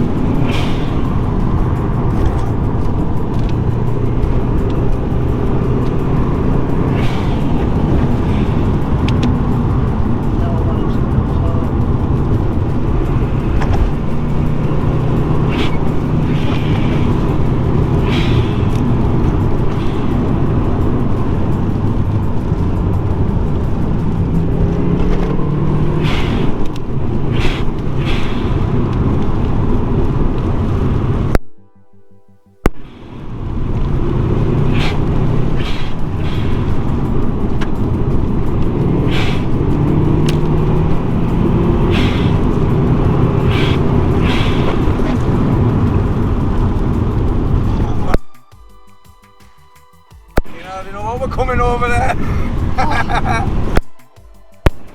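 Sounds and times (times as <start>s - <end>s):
car engine running: 0.0s - 31.4s, 32.6s - 48.2s, 50.4s - 54.0s
rushing hiss: 0.0s - 31.4s, 32.7s - 54.9s
tyre and road noise: 0.0s - 31.4s, 32.6s - 48.5s, 50.3s - 54.9s.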